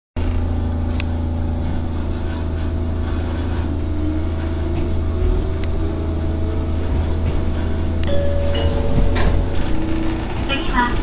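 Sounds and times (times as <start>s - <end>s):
faint rising whine: 0.2s - 10.8s
train rumble from inside: 0.2s - 11.0s.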